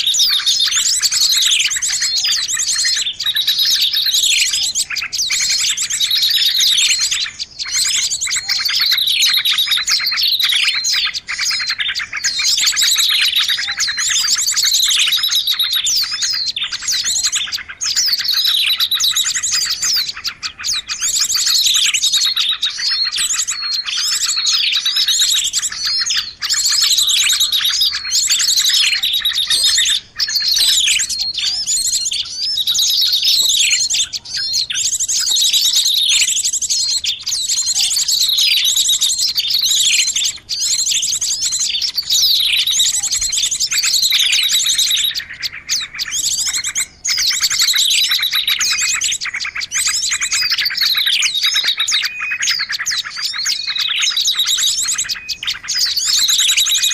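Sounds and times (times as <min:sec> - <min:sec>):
small birds chirping and trilling: 0:00.0 - 0:56.9.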